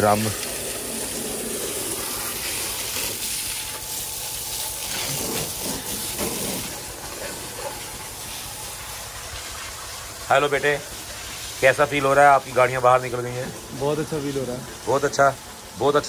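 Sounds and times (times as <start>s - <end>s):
hose water spray hissing: 0.0s - 16.0s.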